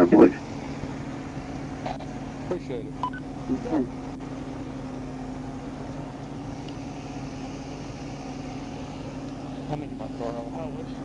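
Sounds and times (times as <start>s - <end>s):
car engine idling hum: 0.0s - 11.0s.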